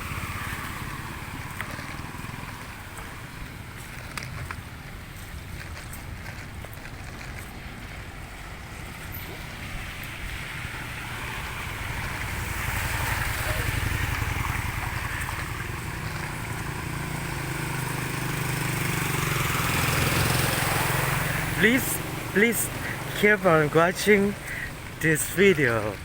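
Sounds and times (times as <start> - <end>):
road traffic: 0.0 - 26.0
vehicle engine hum: 0.0 - 26.0.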